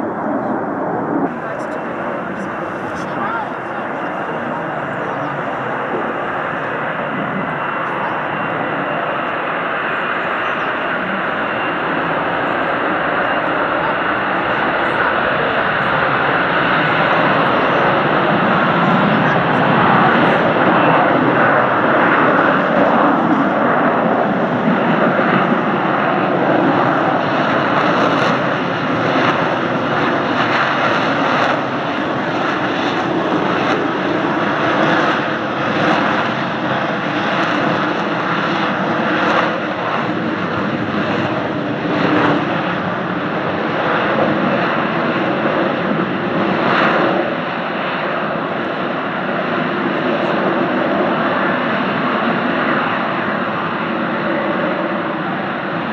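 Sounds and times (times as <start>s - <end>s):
aircraft engine running: 0.0s - 55.9s.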